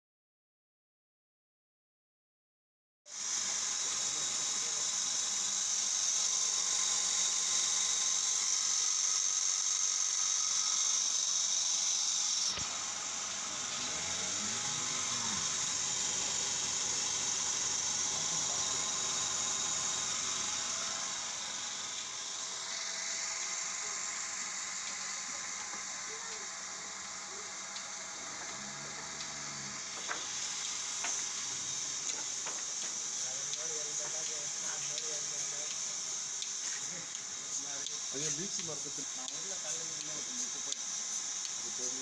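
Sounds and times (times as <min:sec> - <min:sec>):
vacuum pump hissing: 0:03.1 - 0:42.0.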